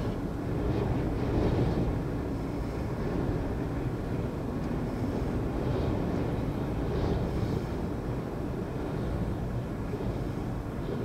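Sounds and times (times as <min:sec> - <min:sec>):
storm wind: 0:00.0 - 0:11.0.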